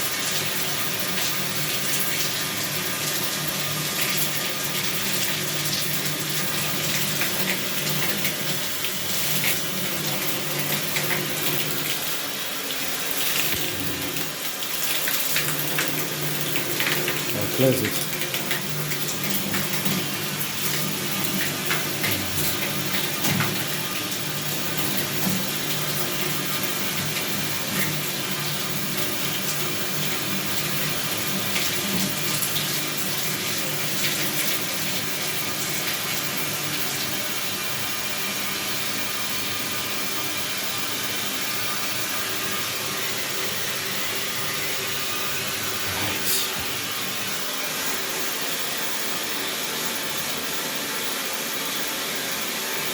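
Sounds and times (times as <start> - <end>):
water running from tap: 0.0 - 52.9.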